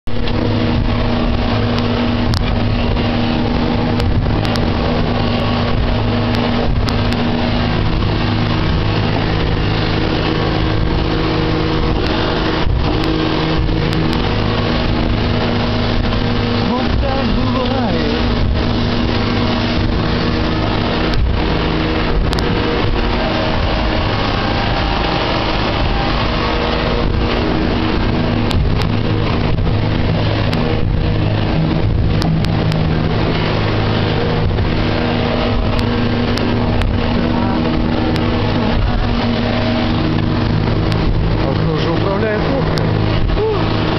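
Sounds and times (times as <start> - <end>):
boat engine running: 0.0 - 43.9
water rushing: 0.0 - 43.9
wind noise: 0.0 - 43.9.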